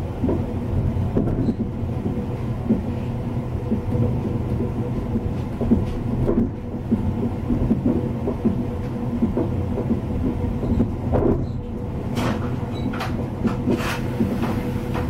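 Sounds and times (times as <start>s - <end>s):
train running gear rumble: 0.0s - 15.0s
sharp knocks and clicks: 0.2s - 0.5s, 1.1s - 2.9s, 3.6s - 15.0s.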